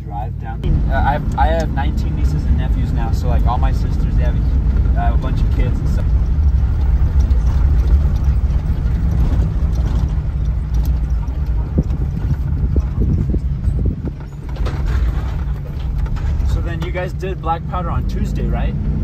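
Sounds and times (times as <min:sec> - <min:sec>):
vehicle driving rumble: 0:00.0 - 0:19.0
knocks and rattles: 0:00.6 - 0:17.4.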